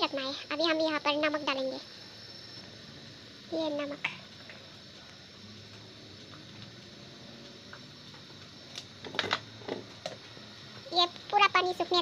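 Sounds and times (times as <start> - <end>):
pot bubbling at a boil: 0.0 - 12.0.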